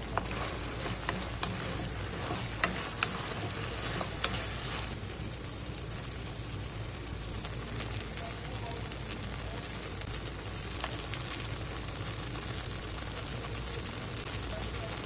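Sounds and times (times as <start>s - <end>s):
potatoes sizzling in a pan: 0.0s - 15.0s.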